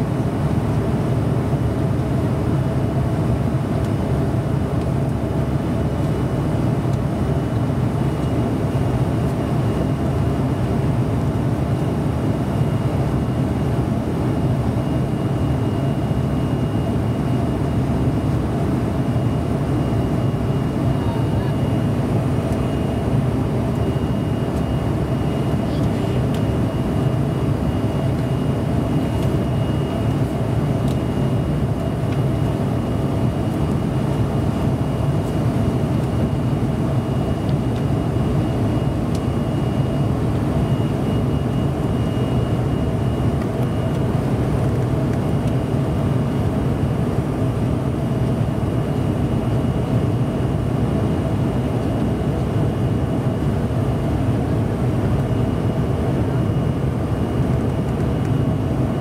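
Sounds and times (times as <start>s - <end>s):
jet cabin engine roar: 0.0s - 59.0s.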